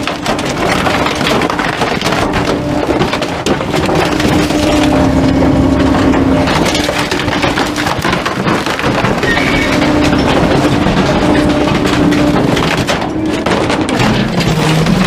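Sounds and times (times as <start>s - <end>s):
garbage truck compactor crushing: 0.0s - 15.0s
truck hum: 0.0s - 15.0s
wood cracking and splintering: 0.0s - 15.0s.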